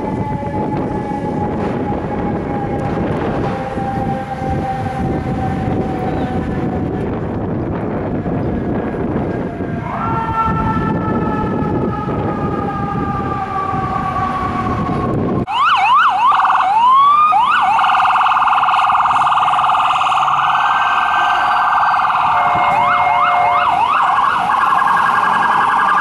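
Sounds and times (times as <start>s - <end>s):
ambulance siren: 0.0s - 26.0s
city traffic rumble: 0.0s - 26.0s.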